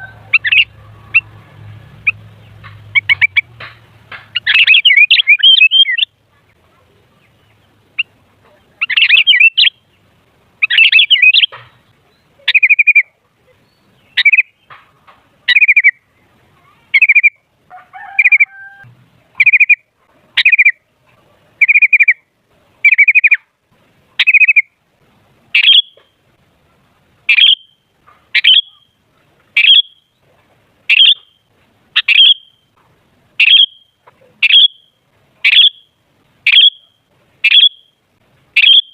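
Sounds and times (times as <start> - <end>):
bulbul calling: 0.0 - 16.3, 16.9 - 23.5, 24.2 - 24.8, 25.5 - 26.2, 27.2 - 38.9.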